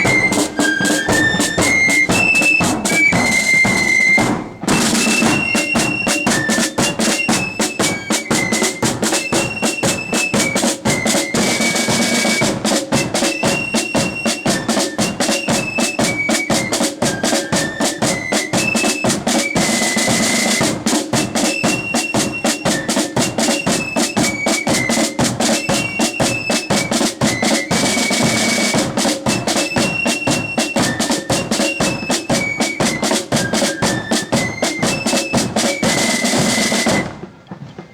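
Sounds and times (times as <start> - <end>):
flute melody: 0.0 - 37.9
snare drum rolls: 0.0 - 37.9.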